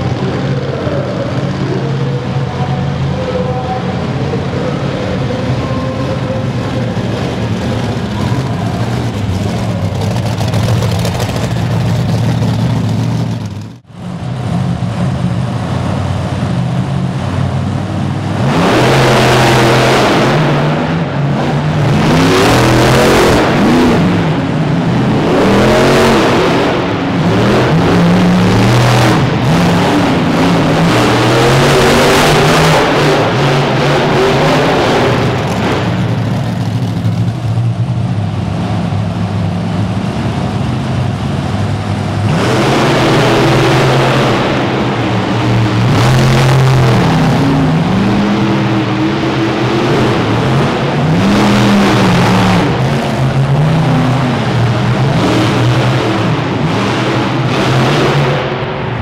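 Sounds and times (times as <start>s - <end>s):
monster truck engine idling: 0.0s - 18.7s, 20.2s - 59.0s
loud engine revving: 0.0s - 59.0s.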